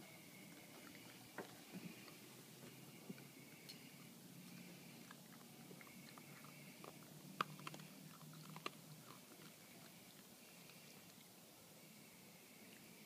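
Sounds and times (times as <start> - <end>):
low steady hum: 0.0 - 13.0
raccoon crunching food: 0.4 - 11.5.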